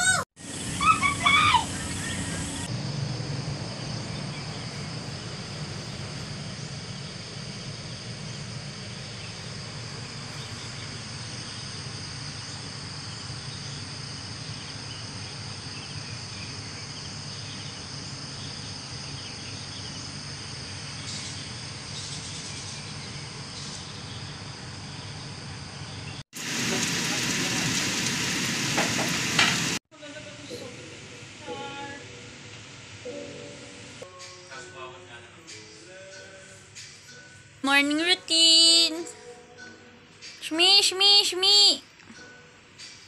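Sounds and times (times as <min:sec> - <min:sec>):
insects trilling: 0:00.4 - 0:29.3, 0:30.0 - 0:43.0.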